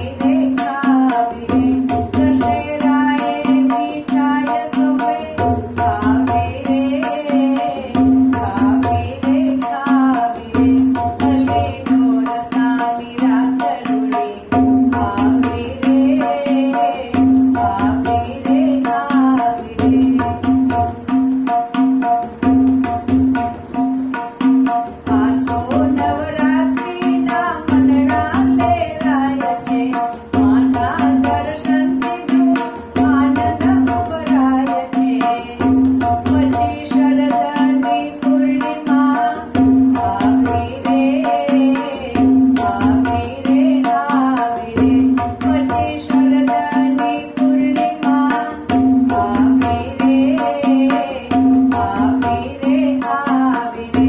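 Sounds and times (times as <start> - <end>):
tabla rhythm: 0.0 - 54.0
woman singing: 0.0 - 54.0.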